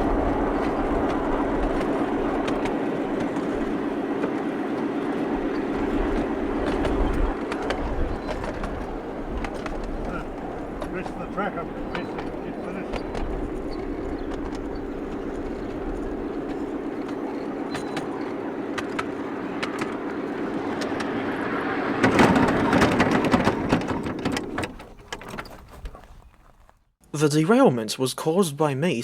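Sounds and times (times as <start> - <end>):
model locomotive motor running: 0.0 - 25.5
clicks and rattles of train: 0.0 - 26.8.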